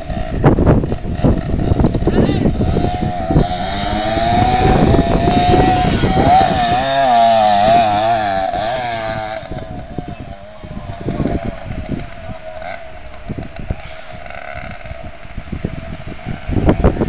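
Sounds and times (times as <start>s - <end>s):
small motorbike engine revving: 0.0s - 17.0s.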